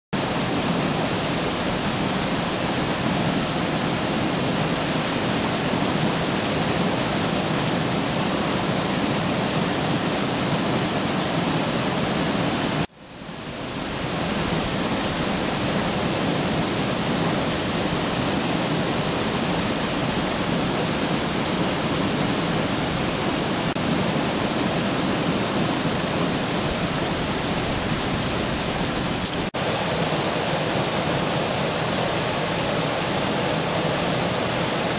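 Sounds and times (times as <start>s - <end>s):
water rushing over weir: 0.2s - 34.9s.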